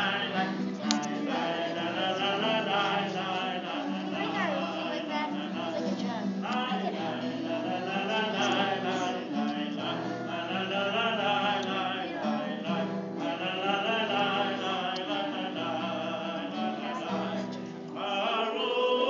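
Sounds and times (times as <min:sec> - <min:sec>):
acoustic guitar strumming: 0:00.0 - 0:19.0
voices singing together: 0:00.0 - 0:19.0.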